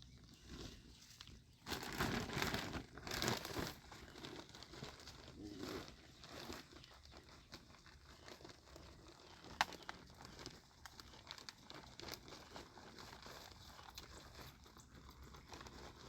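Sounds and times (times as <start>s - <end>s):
faint rustling and crinkling: 0.0s - 16.0s.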